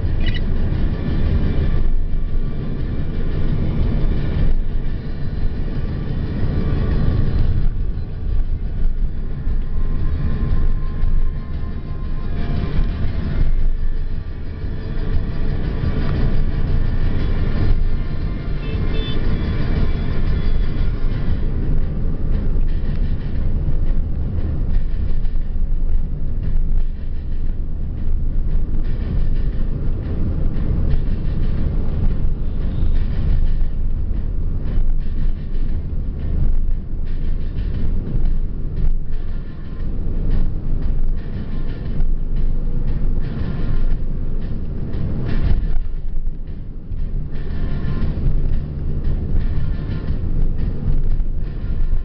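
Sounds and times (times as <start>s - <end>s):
car engine and tyre rumble: 0.0s - 52.0s.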